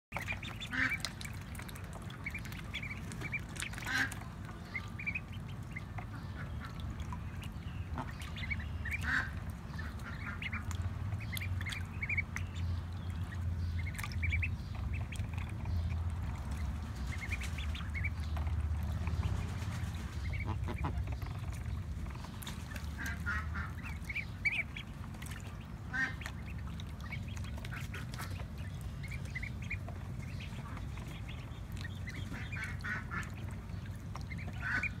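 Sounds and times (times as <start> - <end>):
ducklings peeping: 0.1 - 35.0
steady low rumble: 0.1 - 35.0
water splashing in a tub: 0.1 - 35.0.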